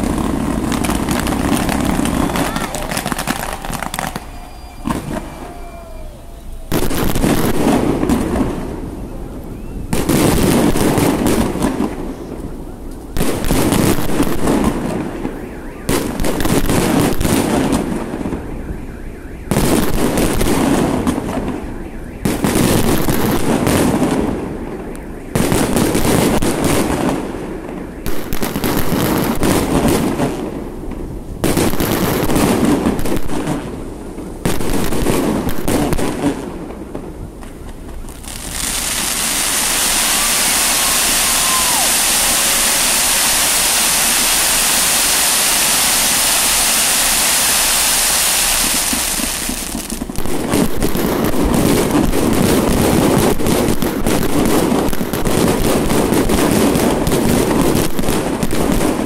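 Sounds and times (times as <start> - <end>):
fireworks dense hiss: 0.0 - 18.4, 25.4 - 59.0
fireworks bangs and crackles: 0.0 - 59.0.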